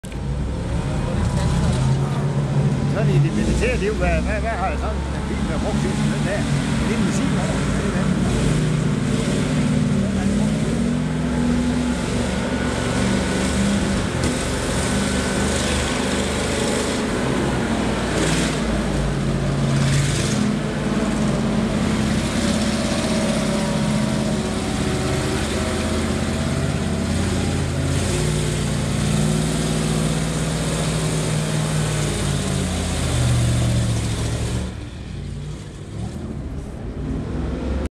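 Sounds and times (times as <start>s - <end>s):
truck engines running under load: 0.0s - 37.9s.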